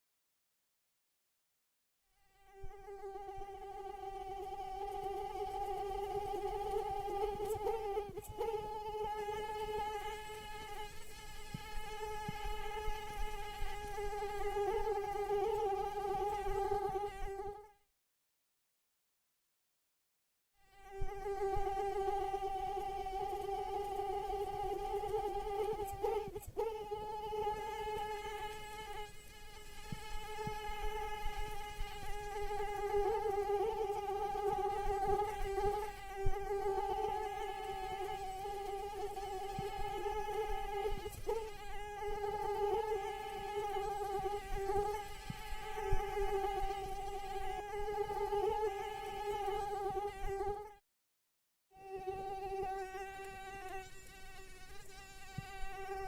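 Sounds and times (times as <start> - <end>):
mosquito wingbeat whine: 2.2 - 17.7, 20.7 - 50.8.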